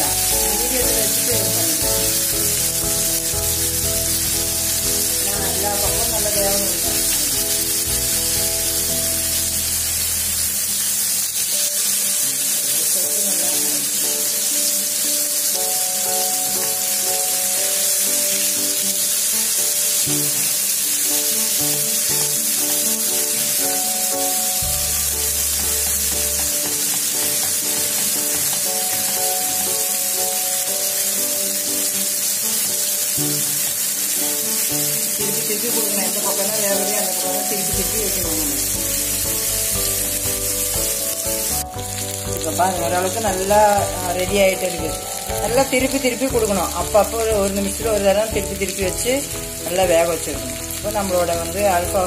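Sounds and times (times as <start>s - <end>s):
background music: 0.0s - 52.0s
chicken sizzling in oil: 0.0s - 52.0s.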